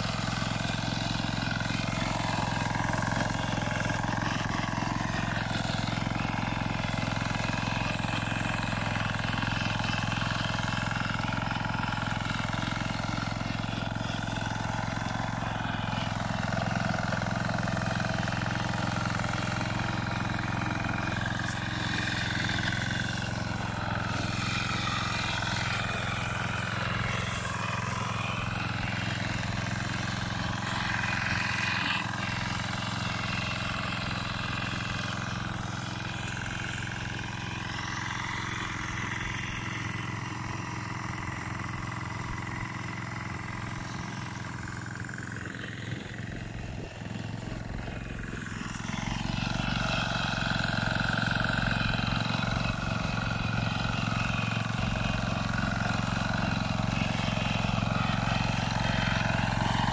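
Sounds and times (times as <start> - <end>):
tiller engine running: 0.0 - 59.9.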